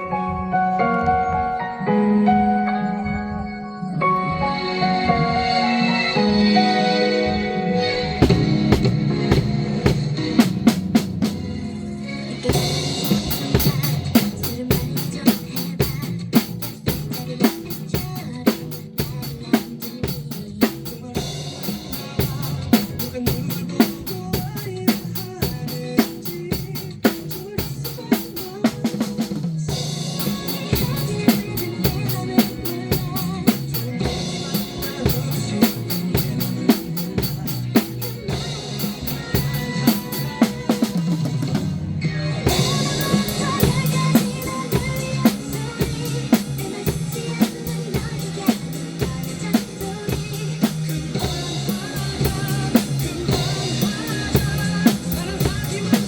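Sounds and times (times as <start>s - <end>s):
recorded song: 0.0s - 56.0s
drum kit beat: 8.1s - 11.5s, 12.5s - 56.0s.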